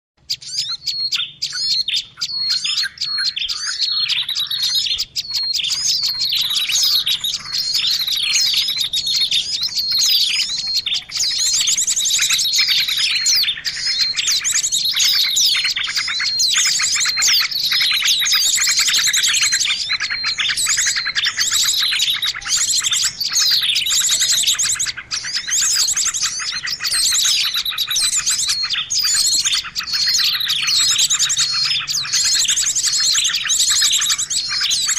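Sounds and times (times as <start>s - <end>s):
small songbirds chirping and trilling: 0.2s - 34.9s.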